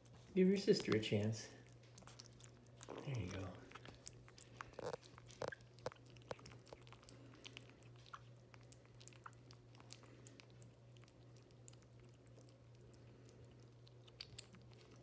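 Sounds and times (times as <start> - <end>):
kittens chewing and licking: 0.0 - 15.0.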